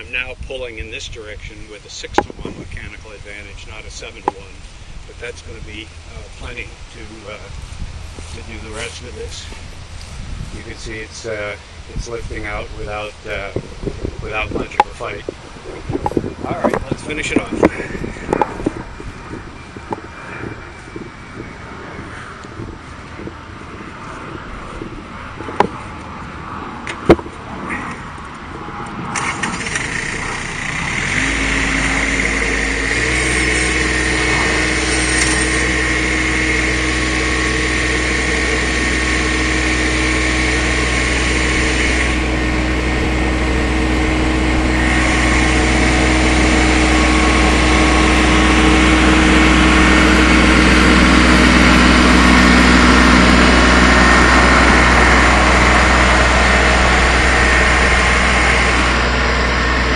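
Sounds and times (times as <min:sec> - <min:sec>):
tractor engine running: 0:00.0 - 0:26.1, 0:28.7 - 0:59.9.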